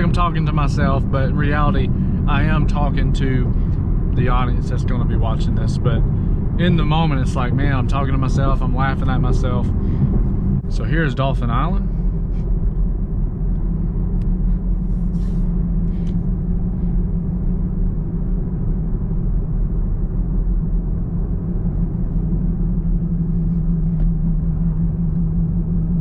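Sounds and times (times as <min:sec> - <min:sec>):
car engine droning: 0:00.0 - 0:26.0
road and tyre rumble: 0:00.0 - 0:26.0.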